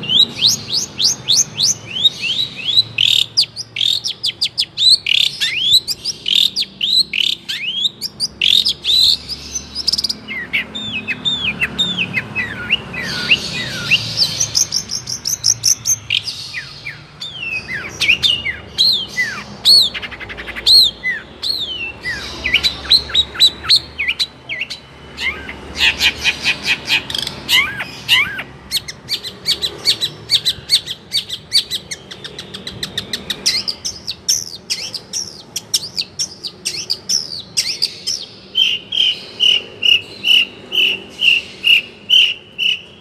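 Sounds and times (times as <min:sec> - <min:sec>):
bird singing whistled notes: 0:00.0 - 0:26.2, 0:27.5 - 0:43.0.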